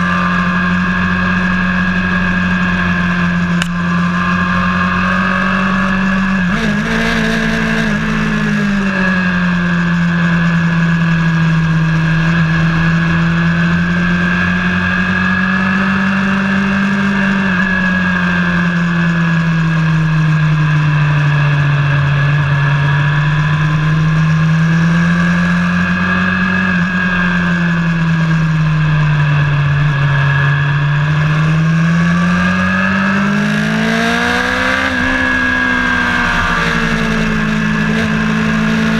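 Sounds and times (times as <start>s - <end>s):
engine at high revs: 0.0s - 38.9s.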